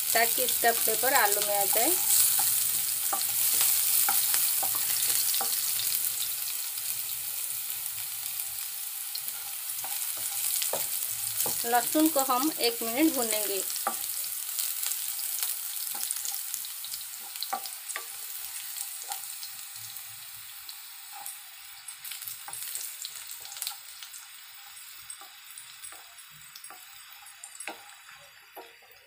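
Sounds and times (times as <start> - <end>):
garlic sizzling in hot oil: 0.0 - 29.0.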